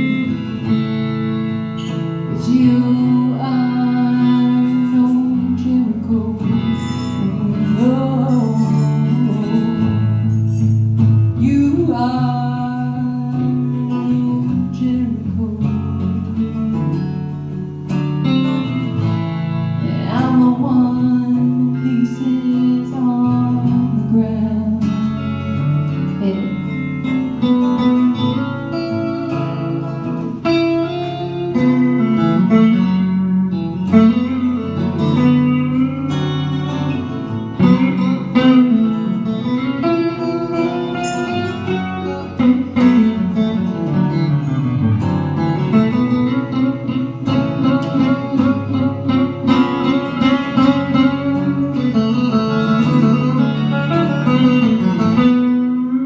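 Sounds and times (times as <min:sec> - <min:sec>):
electric guitar playing: 0:00.0 - 0:56.0
strummed acoustic guitar: 0:00.0 - 0:56.0
woman singing: 0:02.3 - 0:16.8, 0:19.7 - 0:29.6, 0:33.9 - 0:44.0, 0:45.6 - 0:56.0.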